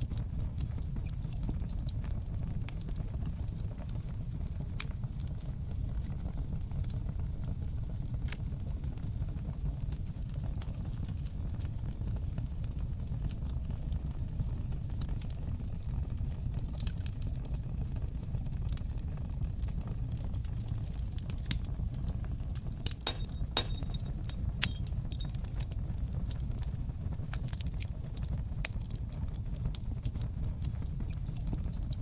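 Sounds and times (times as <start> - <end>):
fire popping and snapping: 0.0 - 32.0
low rush of flames: 0.0 - 32.0.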